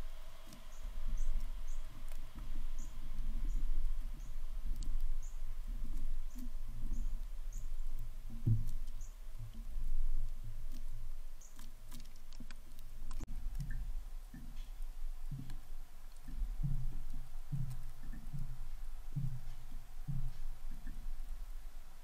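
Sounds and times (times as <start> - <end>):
woodpecker tapping on wood: 0.4 - 21.3.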